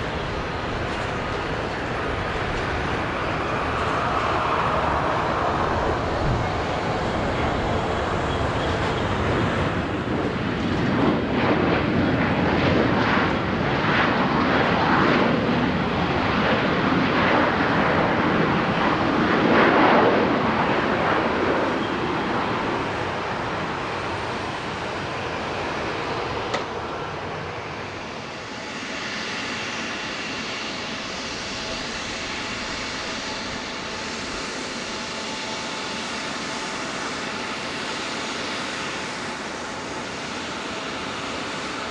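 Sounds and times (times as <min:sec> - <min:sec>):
jet engines passing: 0:00.0 - 0:41.9.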